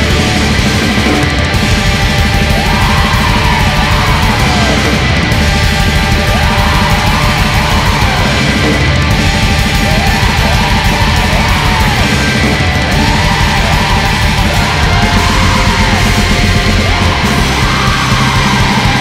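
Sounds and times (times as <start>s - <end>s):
heavy metal music: 0.0s - 19.0s.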